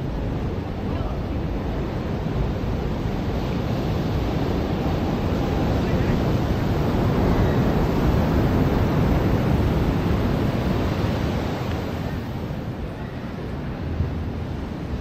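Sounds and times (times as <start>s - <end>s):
ocean waves breaking on beach: 0.0s - 15.0s
wind on microphone: 0.0s - 15.0s.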